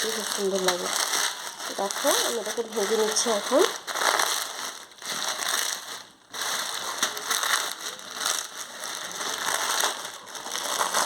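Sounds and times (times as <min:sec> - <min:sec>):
dry noodles crunching in plastic packet: 0:00.0 - 0:11.0.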